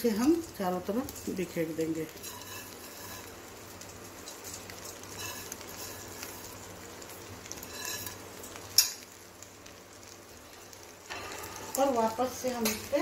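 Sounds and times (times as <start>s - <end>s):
fried onions crackly rustle: 0.0s - 13.0s.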